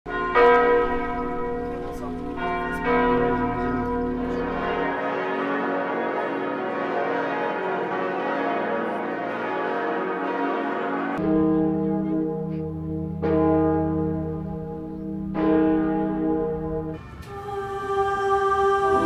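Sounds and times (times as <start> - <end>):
bells ringing in a dense peal: 0.1 - 17.3
church bell tolling: 0.1 - 19.0.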